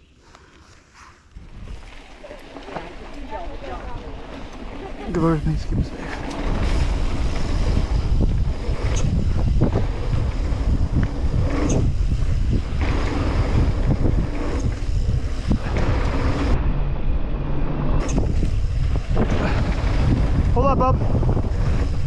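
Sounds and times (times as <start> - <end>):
tyres rumbling on dirt: 1.4 - 22.0
wind buffeting microphone: 1.4 - 22.0.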